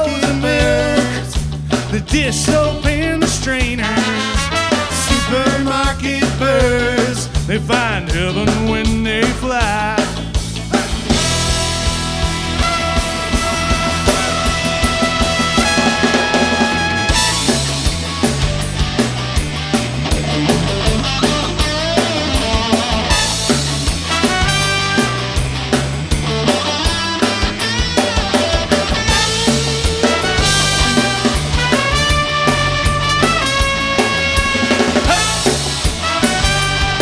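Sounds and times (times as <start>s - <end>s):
drum kit steady beat: 0.0s - 37.0s
walking bass line: 0.0s - 37.0s.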